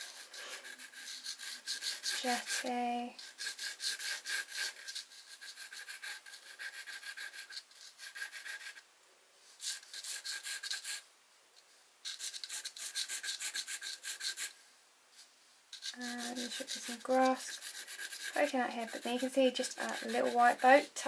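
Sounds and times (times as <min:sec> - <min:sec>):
charcoal pencil scratching on canvas: 0:00.0 - 0:08.8, 0:09.6 - 0:11.0, 0:12.0 - 0:14.6, 0:15.7 - 0:21.0.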